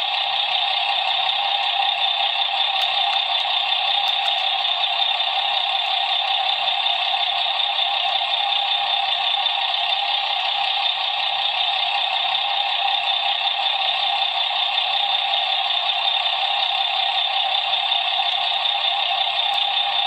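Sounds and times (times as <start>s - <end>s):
toy truck engine sound from small speaker: 0.0s - 20.0s.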